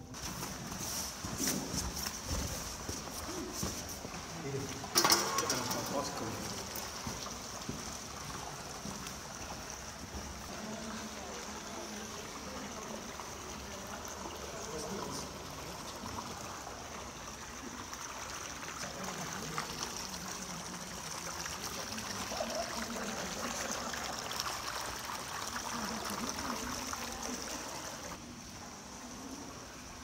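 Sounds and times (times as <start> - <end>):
trickling water with crackle: 0.0 - 28.2.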